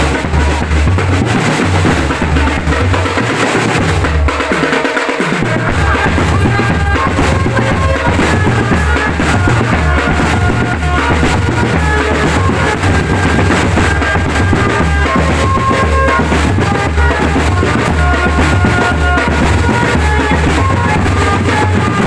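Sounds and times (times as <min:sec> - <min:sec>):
marching drum band playing: 0:00.0 - 0:22.0.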